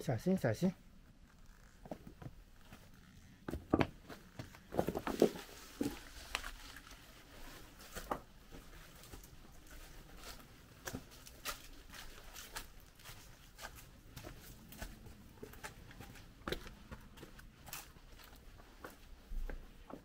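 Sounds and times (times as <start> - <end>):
faint footsteps and scuffs: 1.3 - 20.0.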